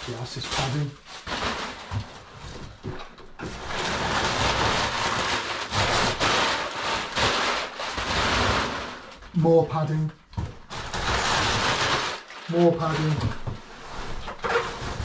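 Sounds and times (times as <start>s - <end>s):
packing paper crinkling: 0.0s - 2.8s, 3.4s - 9.3s, 10.6s - 15.0s.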